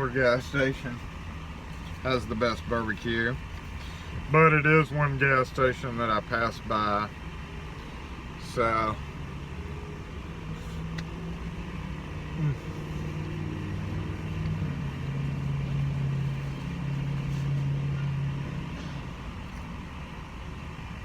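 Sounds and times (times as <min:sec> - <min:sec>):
vehicle engine hum inside cab: 0:00.0 - 0:21.0.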